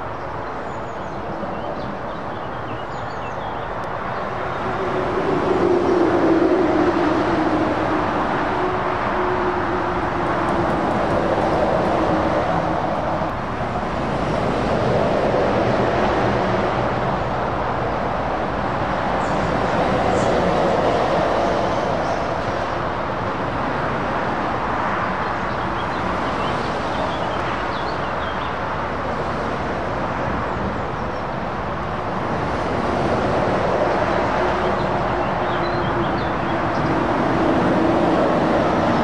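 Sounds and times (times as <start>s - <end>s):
motorway traffic rushing: 0.0s - 39.0s.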